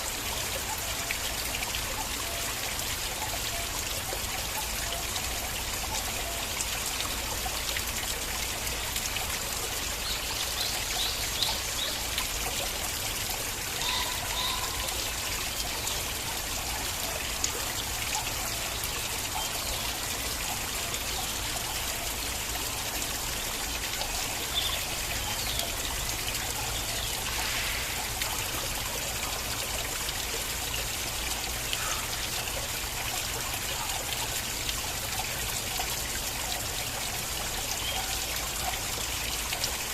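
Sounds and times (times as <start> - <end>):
stream water trickling: 0.0 - 39.9
water gurgles: 0.0 - 39.9.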